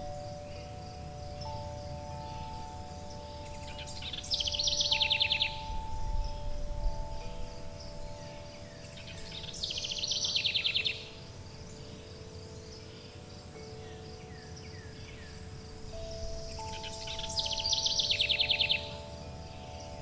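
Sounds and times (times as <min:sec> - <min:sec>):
faint bird chirps: 0:00.0 - 0:20.0
high insect-like hum: 0:00.0 - 0:20.0
songbird trilling: 0:00.0 - 0:20.0
wind chimes ringing: 0:00.0 - 0:20.0.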